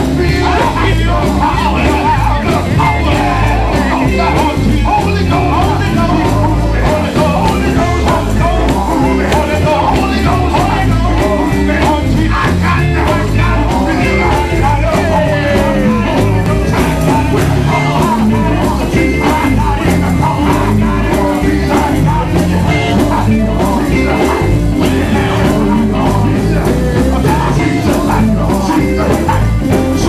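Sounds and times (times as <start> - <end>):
gospel band with bass and beat: 0.0 - 30.0
man singing into a microphone: 0.0 - 30.0.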